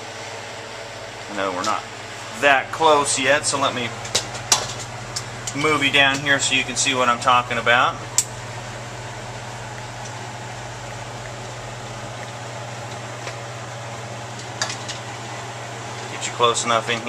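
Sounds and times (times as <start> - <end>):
equipment hum with airy hiss: 0.0 - 17.0.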